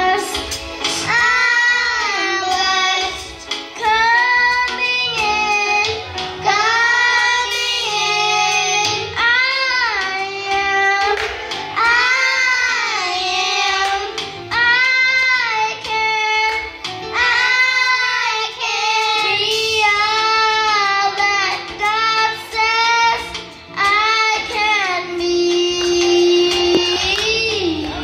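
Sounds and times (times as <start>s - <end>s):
girls singing into microphones: 0.0s - 28.0s.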